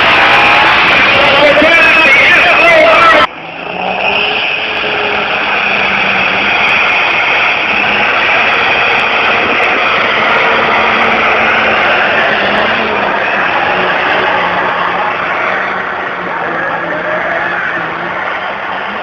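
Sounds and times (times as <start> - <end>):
loud engine roar: 0.0 - 19.0.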